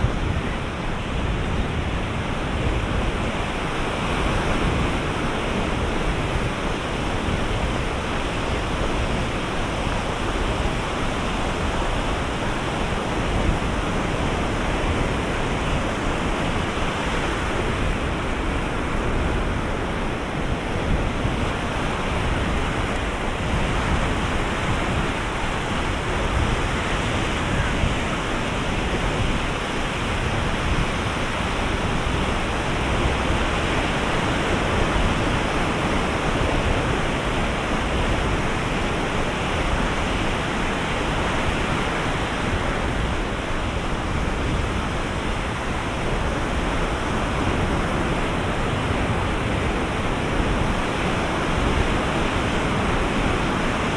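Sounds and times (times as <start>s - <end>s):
ocean surf breaking: 0.0s - 53.9s.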